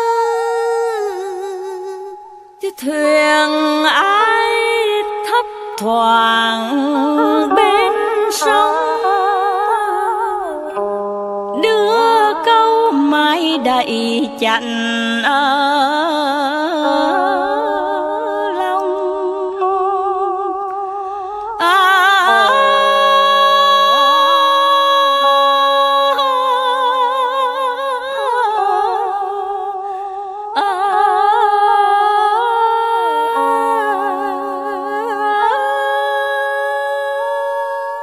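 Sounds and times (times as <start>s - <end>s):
slow instrumental melody: 0.0s - 38.0s
sustained chords: 3.3s - 38.0s.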